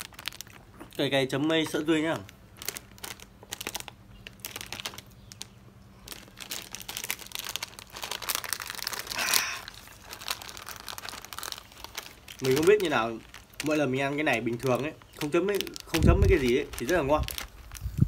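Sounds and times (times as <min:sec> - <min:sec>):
plastic snack packet crinkling: 0:00.0 - 0:18.0
packet tearing open: 0:02.1 - 0:05.5, 0:06.1 - 0:18.0.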